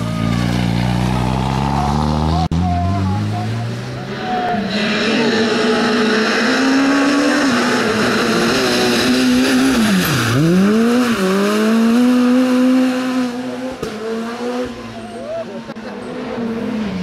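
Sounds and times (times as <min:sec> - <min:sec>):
rally car engine passing: 0:00.0 - 0:17.0.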